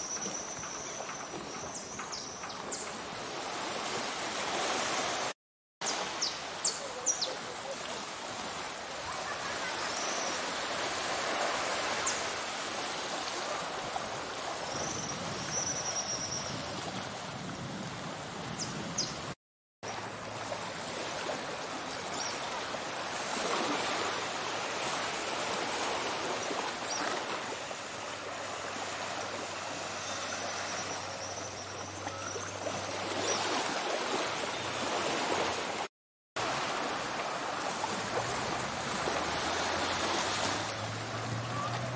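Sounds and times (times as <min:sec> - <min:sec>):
small waves washing onto beach: 0:00.0 - 0:41.9.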